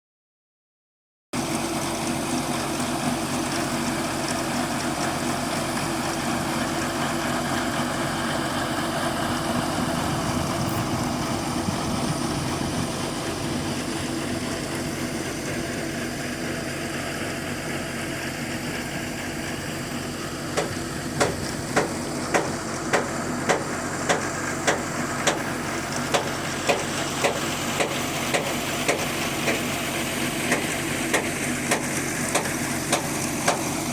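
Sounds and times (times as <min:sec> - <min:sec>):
drilling rig engine running: 0:01.4 - 0:33.9.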